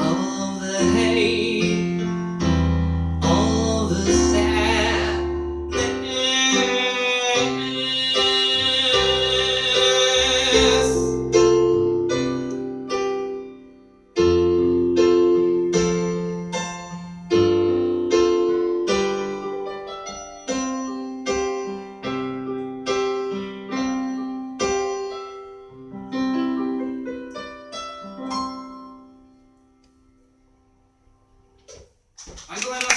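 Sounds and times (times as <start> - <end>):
piano chords: 0.0 - 31.6.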